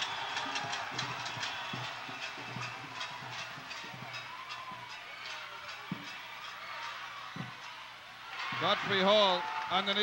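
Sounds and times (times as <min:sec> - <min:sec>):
crowd din: 0:00.0 - 0:09.2.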